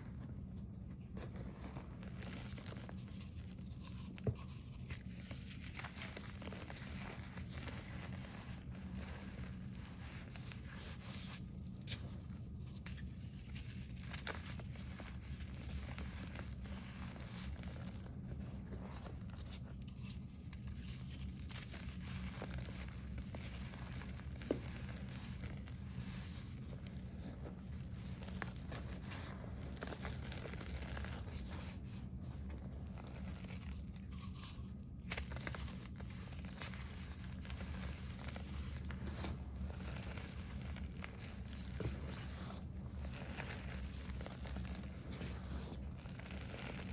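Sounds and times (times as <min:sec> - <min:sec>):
steady low hum: 0:00.0 - 0:46.9
chalk crunching in hands: 0:02.0 - 0:31.9, 0:32.8 - 0:46.9.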